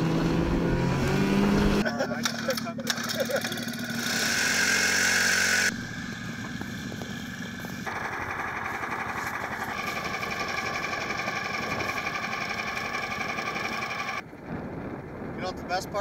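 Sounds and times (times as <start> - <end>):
engine running: 0.0 - 15.4.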